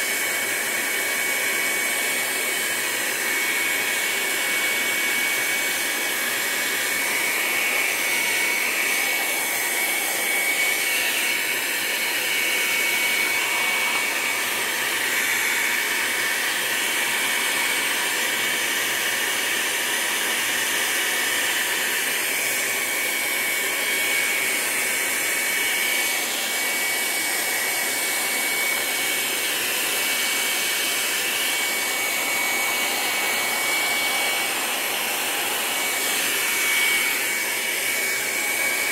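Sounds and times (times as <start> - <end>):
heat gun blowing air: 0.0 - 38.9.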